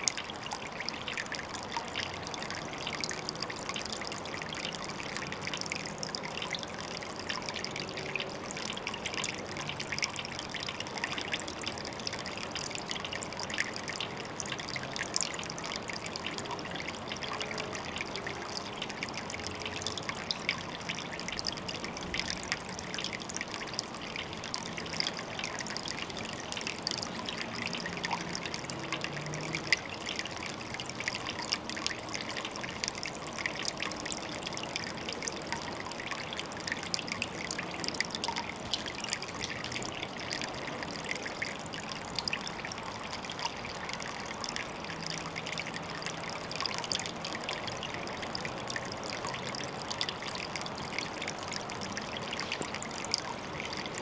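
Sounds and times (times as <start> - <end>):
water trickling into pond: 0.0 - 54.0.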